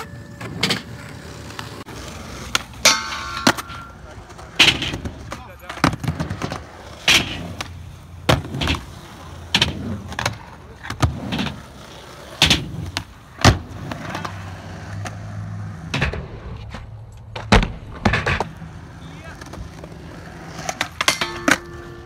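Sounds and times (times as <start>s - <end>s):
skateboard clacks: 0.0s - 22.0s
skateboard wheels rolling on concrete: 0.0s - 22.0s.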